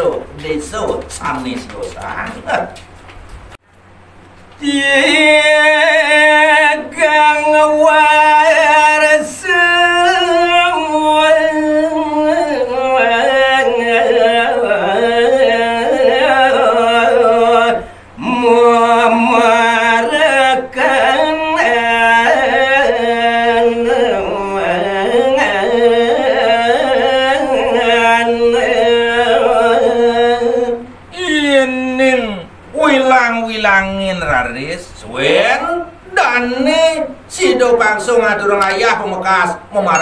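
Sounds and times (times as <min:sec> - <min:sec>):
man singing unaccompanied: 0:00.0 - 0:02.8, 0:04.5 - 0:40.0.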